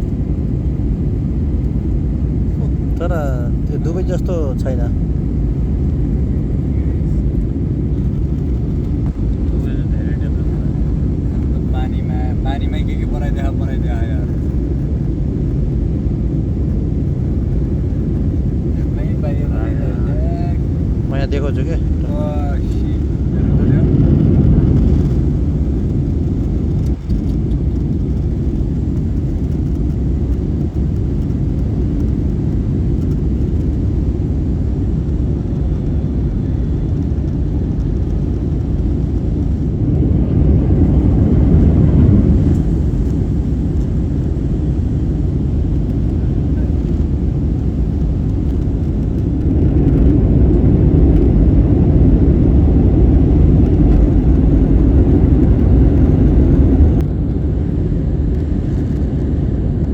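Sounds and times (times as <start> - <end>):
moving vehicle rumble from inside: 0.0 - 59.9.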